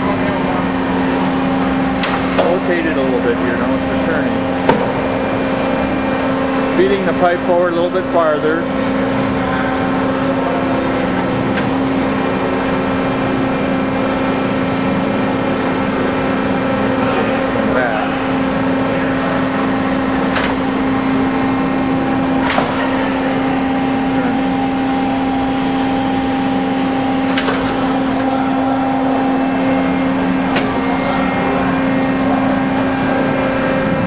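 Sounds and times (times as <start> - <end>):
hydraulic pump humming: 0.0 - 34.0.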